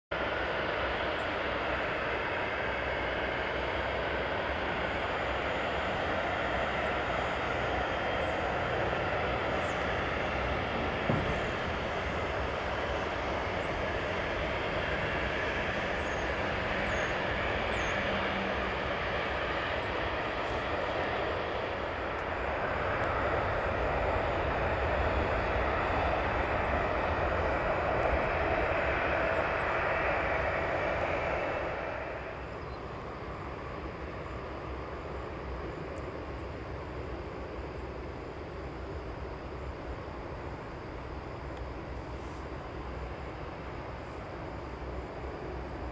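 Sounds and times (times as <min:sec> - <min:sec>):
jet engines running: 0:00.1 - 0:45.9.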